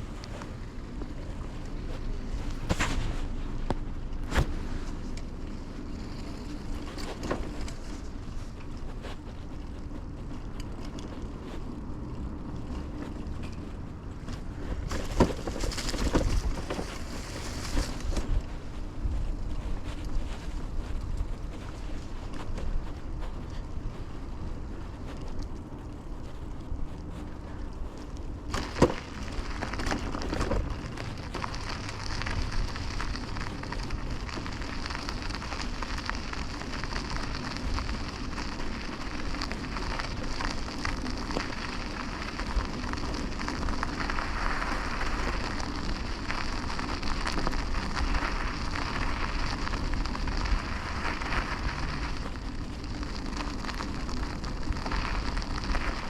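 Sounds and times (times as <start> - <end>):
bike tyres hissing on road: 0.0 - 56.0.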